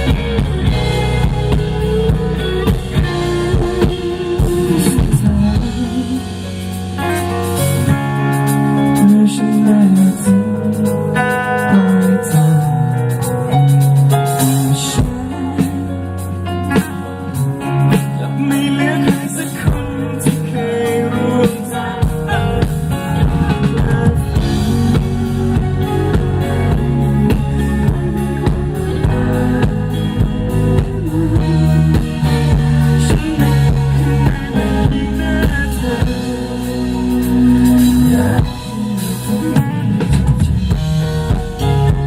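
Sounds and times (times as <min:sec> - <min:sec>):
bass guitar: 0:00.0 - 0:42.0
drum kit: 0:00.0 - 0:42.0
guitar chords: 0:00.0 - 0:42.0.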